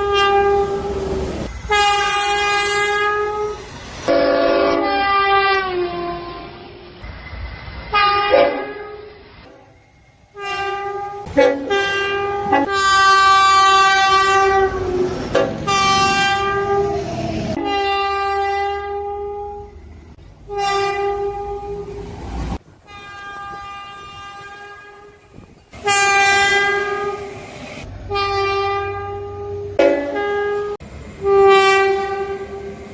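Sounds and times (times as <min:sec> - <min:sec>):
train horn blasts: 0:00.0 - 0:07.0, 0:07.9 - 0:09.7, 0:10.3 - 0:22.1, 0:22.8 - 0:32.9.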